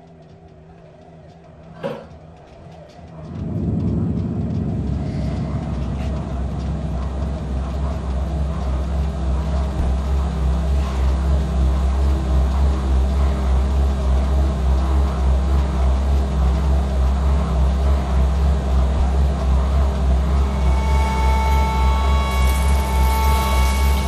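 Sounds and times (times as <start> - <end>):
low throbbing drone: 0.0 - 24.0.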